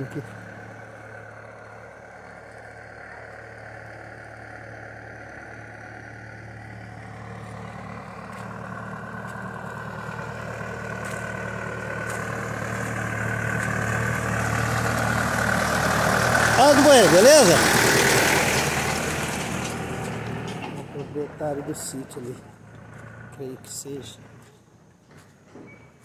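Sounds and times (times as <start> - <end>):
tractor diesel engine approaching: 0.0 - 26.0.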